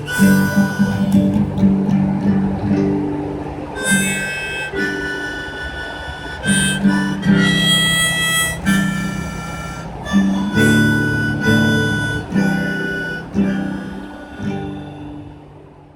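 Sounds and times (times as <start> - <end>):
harmonica: 0.0 - 2.5, 3.7 - 15.5
strummed acoustic guitar: 0.0 - 15.9.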